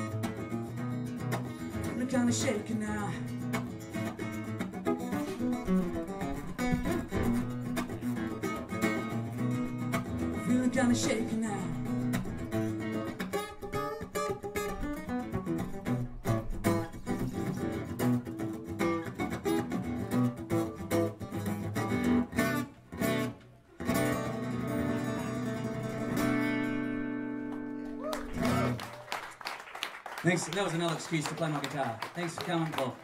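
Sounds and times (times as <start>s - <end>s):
acoustic guitar strumming: 0.0s - 28.8s.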